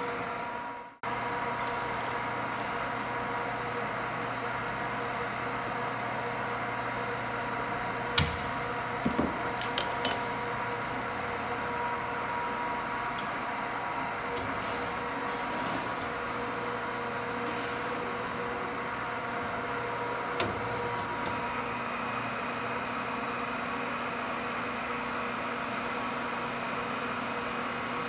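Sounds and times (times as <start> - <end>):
shop equipment humming: 0.0 - 28.0.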